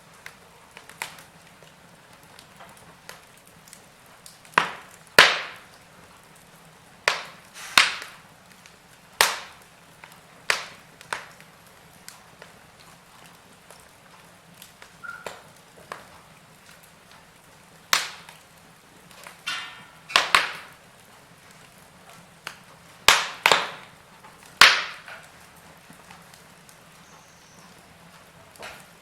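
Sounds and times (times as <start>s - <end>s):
faint steady hiss: 0.0s - 29.0s
wood fire crackling and popping: 0.0s - 29.0s.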